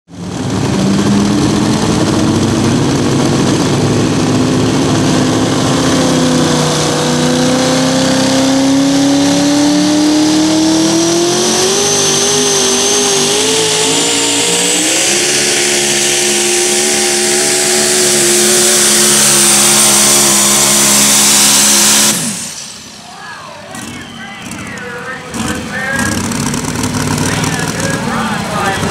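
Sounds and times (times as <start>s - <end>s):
truck engine at full power: 0.1s - 28.9s.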